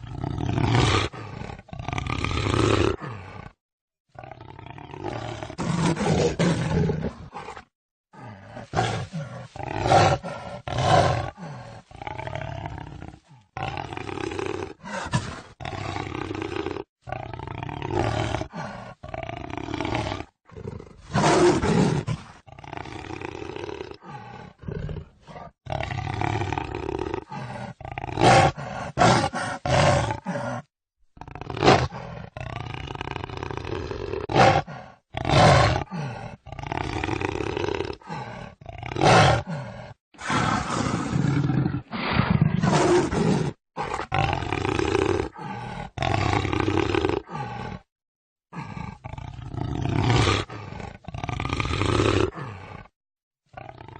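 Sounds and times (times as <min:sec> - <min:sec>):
jaguar roaring and growling: 0:00.0 - 0:47.9, 0:48.5 - 0:53.9.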